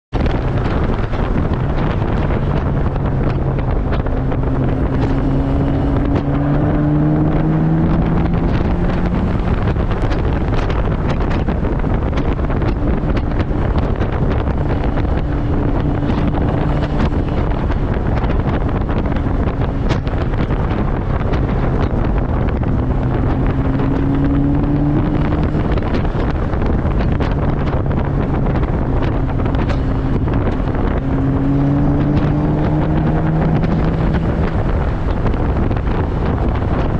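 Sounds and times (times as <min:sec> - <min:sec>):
wind buffeting microphone: 0:00.1 - 0:36.9
car engine accelerating hard: 0:00.2 - 0:36.9.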